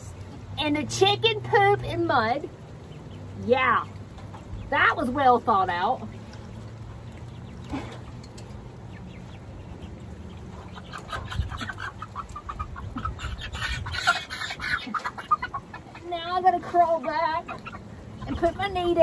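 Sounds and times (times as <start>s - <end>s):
young chickens clucking: 0.0s - 19.0s.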